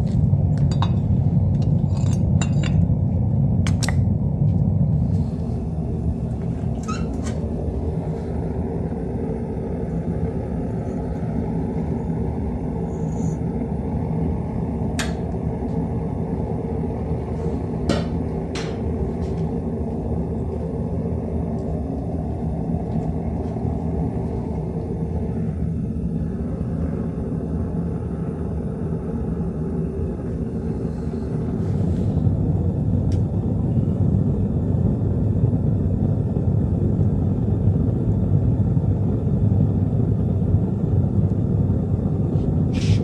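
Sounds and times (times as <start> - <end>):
furnace rumbling: 0.0 - 43.0.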